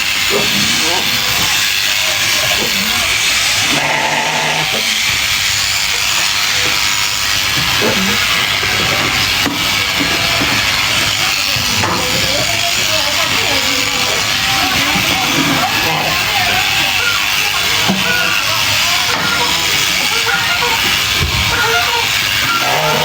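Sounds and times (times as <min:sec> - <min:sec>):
electric sheep shears buzzing: 0:00.0 - 0:23.0.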